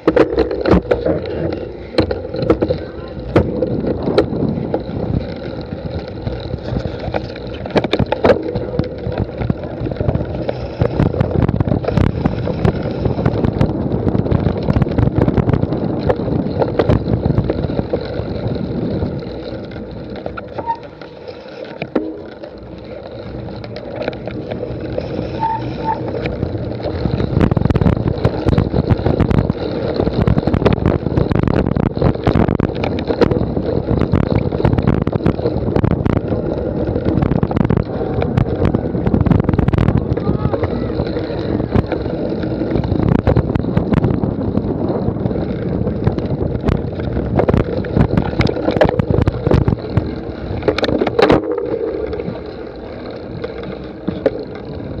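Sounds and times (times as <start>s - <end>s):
small knocks and rattles: 0.0s - 55.0s
wind buffeting microphone: 0.0s - 55.0s.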